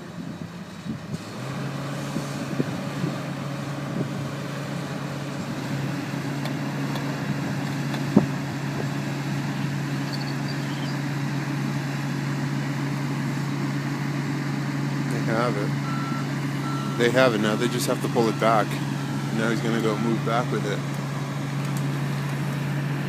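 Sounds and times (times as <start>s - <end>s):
crane engine running under load: 0.0s - 23.0s.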